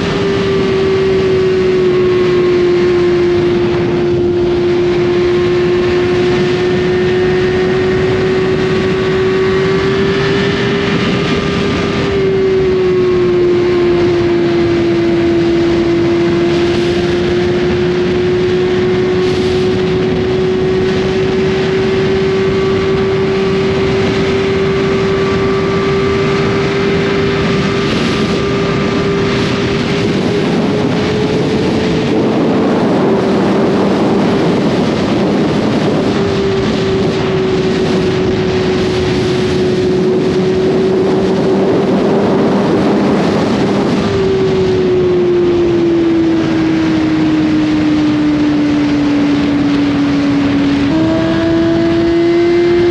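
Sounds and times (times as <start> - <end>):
motorcycle engine cruising: 0.0 - 52.9
wind and road noise: 0.0 - 52.9.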